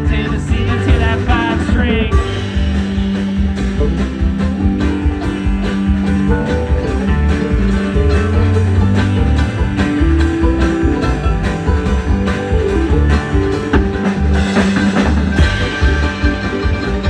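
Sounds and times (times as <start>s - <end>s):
banjo picking: 0.0s - 17.0s
country band playing: 0.0s - 17.0s.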